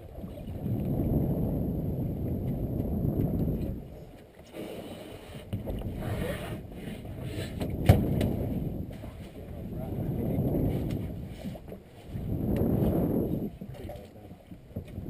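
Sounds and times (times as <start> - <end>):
wind buffeting microphone: 0.0 - 4.4, 5.0 - 15.0
boat background noise: 0.0 - 15.0.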